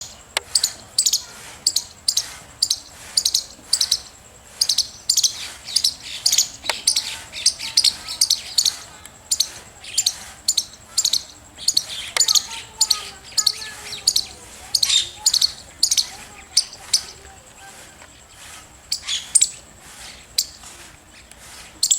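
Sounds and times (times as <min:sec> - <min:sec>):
squirrel chirping: 0:00.0 - 0:21.9.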